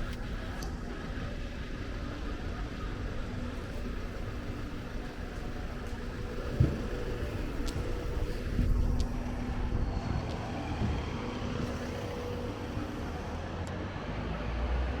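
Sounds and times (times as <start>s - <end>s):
faint engine hum: 0.0s - 15.0s
traffic rumble: 0.0s - 15.0s.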